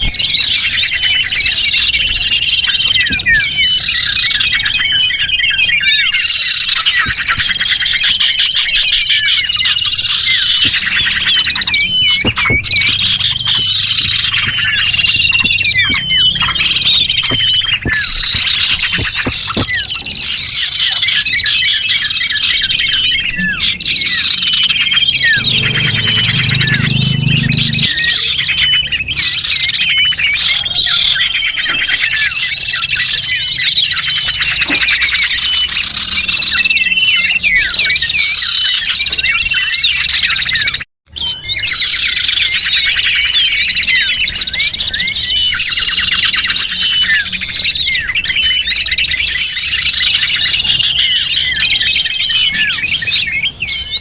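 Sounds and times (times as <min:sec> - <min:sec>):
chorus of small birds chirping: 0:00.0 - 0:54.0.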